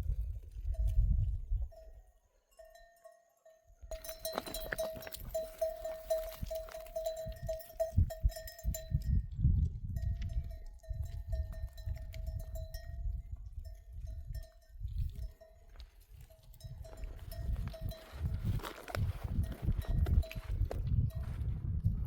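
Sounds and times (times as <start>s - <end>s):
livestock bell clanking: 0.6s - 21.4s.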